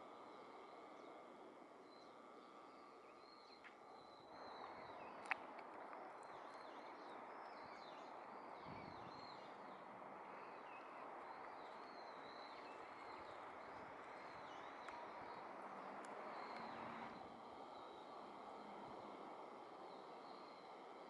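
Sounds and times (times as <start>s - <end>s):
small birds chirping: 0.2s - 18.7s.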